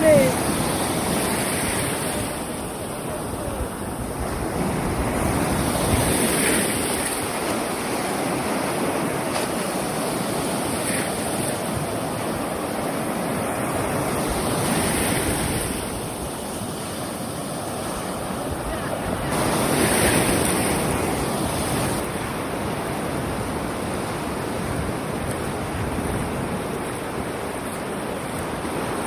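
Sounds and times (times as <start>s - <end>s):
surf washing onto beach: 0.0s - 29.0s
wind buffeting microphone: 0.0s - 29.0s.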